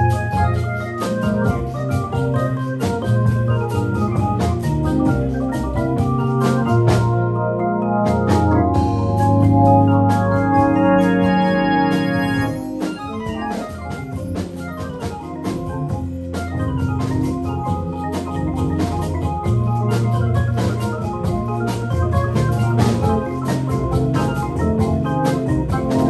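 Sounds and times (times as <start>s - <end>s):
double bass: 0.0s - 26.0s
drums: 0.0s - 26.0s
electric organ keyboard: 0.0s - 26.0s.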